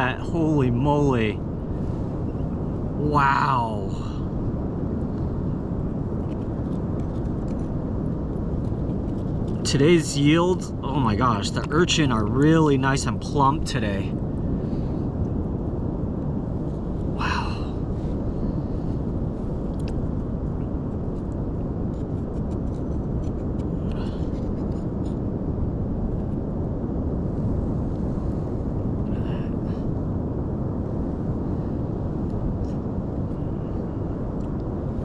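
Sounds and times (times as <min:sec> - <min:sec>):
wind on microphone: 0:00.0 - 0:35.0.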